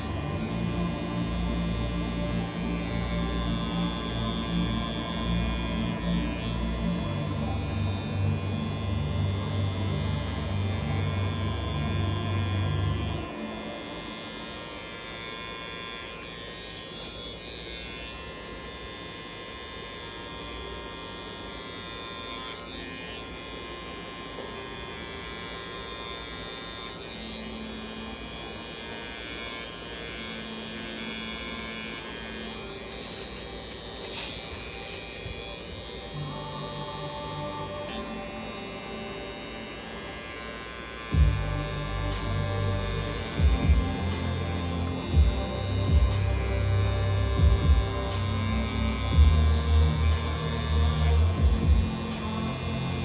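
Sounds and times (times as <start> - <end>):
tattoo machine buzzing: 0.0 - 53.0.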